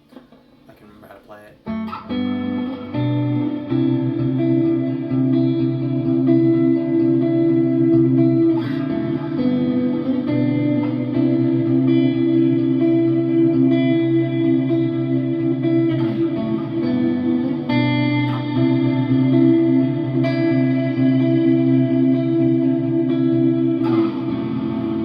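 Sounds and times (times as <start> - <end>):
electric guitar ringing chords: 1.6 - 25.0.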